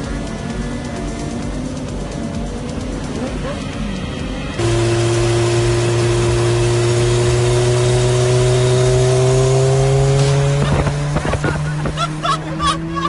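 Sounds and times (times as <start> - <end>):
motorcycle engine revving high: 0.0 - 13.0.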